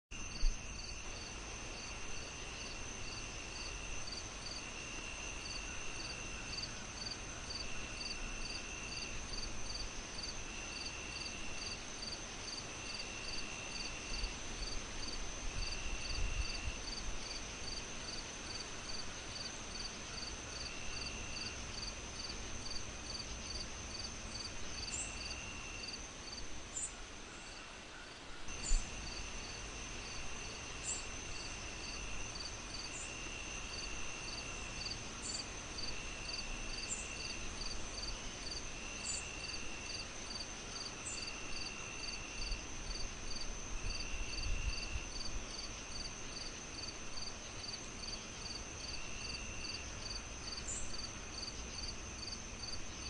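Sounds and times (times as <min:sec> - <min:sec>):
insect trill: 0:00.2 - 0:27.6, 0:28.5 - 0:53.0
insects high buzz: 0:00.2 - 0:27.6, 0:28.5 - 0:53.0
crickets chirping: 0:00.2 - 0:53.0.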